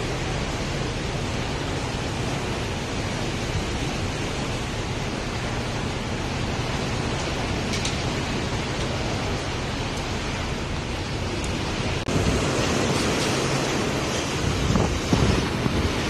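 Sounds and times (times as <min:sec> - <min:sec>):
sea and wind rushing: 0:00.0 - 0:16.0
waves breaking along hull: 0:00.0 - 0:16.0.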